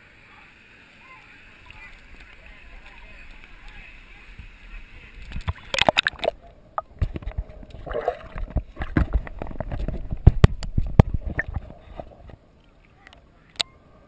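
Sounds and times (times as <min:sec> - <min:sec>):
water sloshing underwater: 0:01.4 - 0:13.6.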